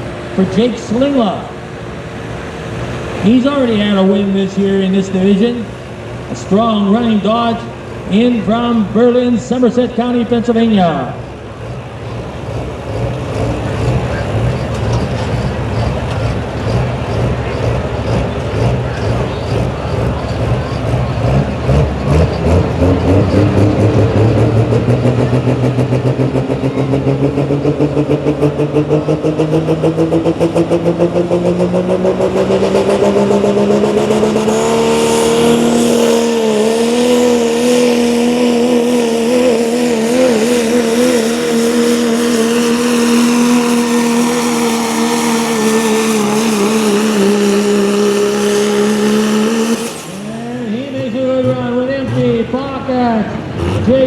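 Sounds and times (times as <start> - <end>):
truck engine at full throttle: 0.0 - 54.0.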